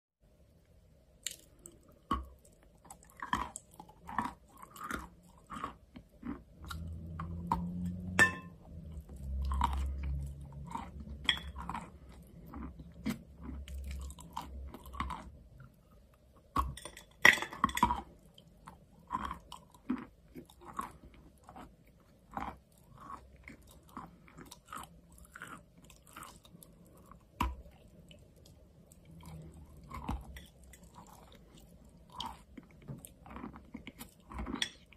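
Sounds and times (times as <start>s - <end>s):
crunching and chewing chalk: 1.2s - 16.9s, 17.6s - 34.9s.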